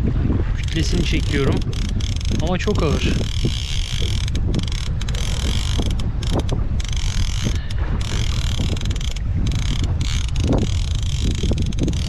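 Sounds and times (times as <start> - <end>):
wind rumble on microphone: 0.0 - 12.0
fishing reel gears whirring: 0.6 - 12.0.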